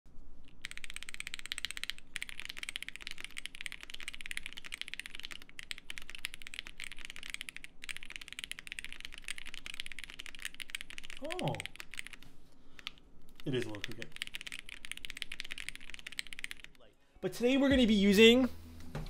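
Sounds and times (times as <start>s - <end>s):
mechanical keyboard typing: 0.5s - 16.8s.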